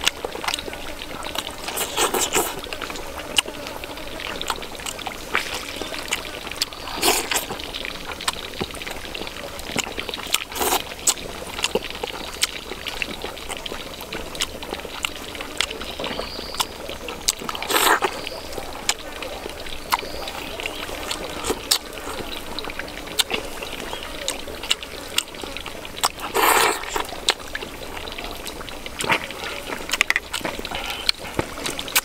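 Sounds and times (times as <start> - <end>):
chewing and lip smacks: 0.0 - 32.0
slurps: 0.0 - 32.0
stream trickling: 0.0 - 32.0.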